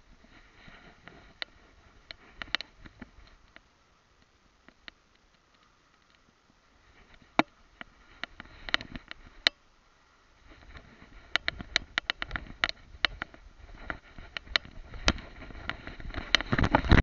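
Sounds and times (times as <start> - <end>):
rustling through long grass: 0.0 - 17.0.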